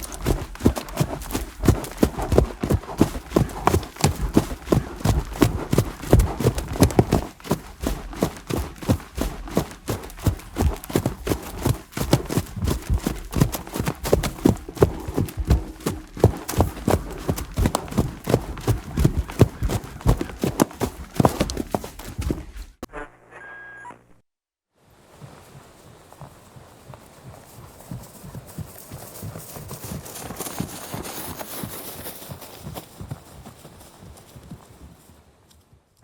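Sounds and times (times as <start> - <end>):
horse hooves galloping: 0.0 - 22.8, 25.0 - 35.8.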